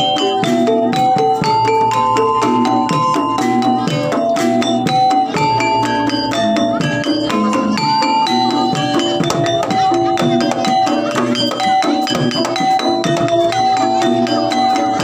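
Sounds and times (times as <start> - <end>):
bronze metallophones melody: 0.0 - 15.0
drumming: 0.0 - 15.0.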